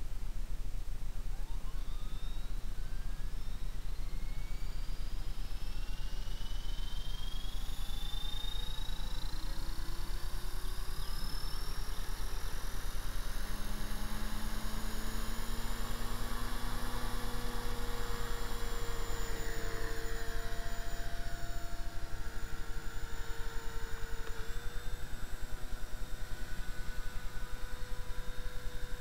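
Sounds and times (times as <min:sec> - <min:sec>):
helicopter motor whine rising: 0:01.2 - 0:29.0
steady electrical buzz: 0:03.4 - 0:29.0.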